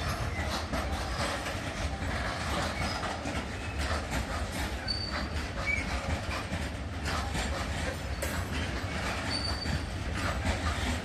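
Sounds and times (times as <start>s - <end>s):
clickety-clack over rail joints: 0.0s - 11.0s
high wheel squeal: 0.0s - 11.0s
train wheels rumbling on rails: 0.0s - 11.0s.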